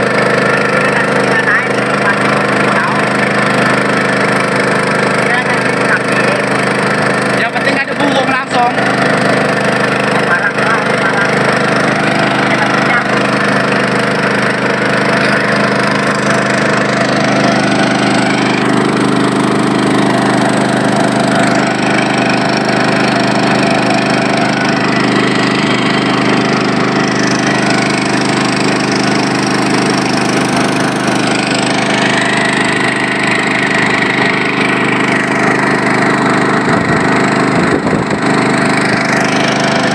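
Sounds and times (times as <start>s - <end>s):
small boat engine droning: 0.0s - 39.9s.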